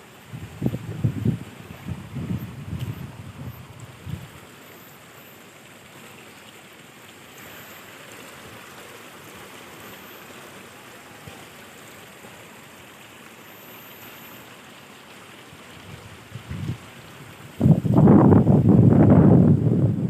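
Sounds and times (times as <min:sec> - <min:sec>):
rushing flowing water: 0:00.0 - 0:20.0.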